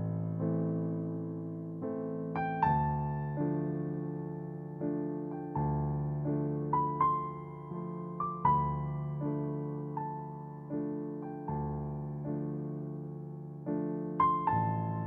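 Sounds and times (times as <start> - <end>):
gentle piano piece: 0.0 - 15.0.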